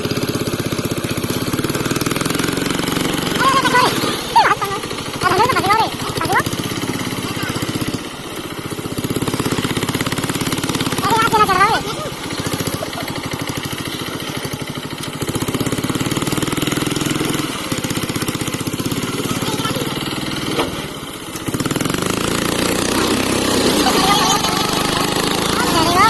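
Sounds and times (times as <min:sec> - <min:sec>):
tractor diesel engine throbbing: 0:00.0 - 0:26.0.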